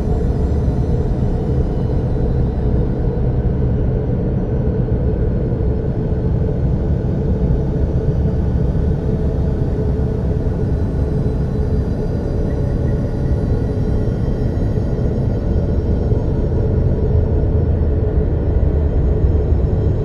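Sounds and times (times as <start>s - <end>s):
deep noisy drone: 0.0s - 20.0s.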